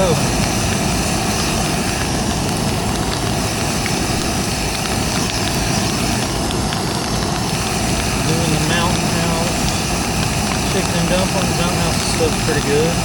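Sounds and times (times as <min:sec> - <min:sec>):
steady rain: 0:00.0 - 0:13.0
stove burner hissing: 0:00.0 - 0:13.0.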